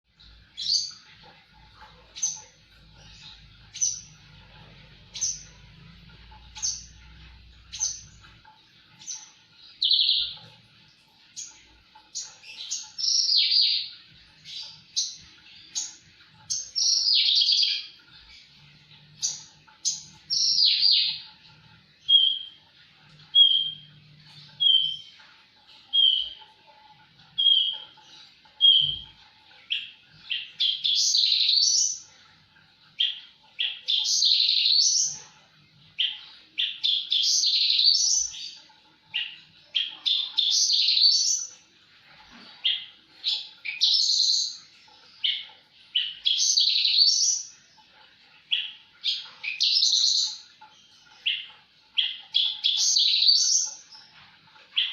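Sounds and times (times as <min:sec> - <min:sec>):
bird singing: 0:00.1 - 0:10.6, 0:11.2 - 0:32.3, 0:32.9 - 0:41.6, 0:42.3 - 0:54.9.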